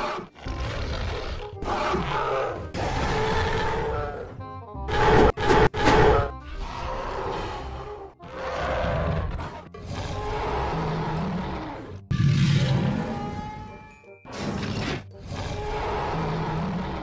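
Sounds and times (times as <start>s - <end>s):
cartoon creature roars and growls: 0.0s - 4.3s, 6.0s - 13.2s, 14.8s - 17.0s.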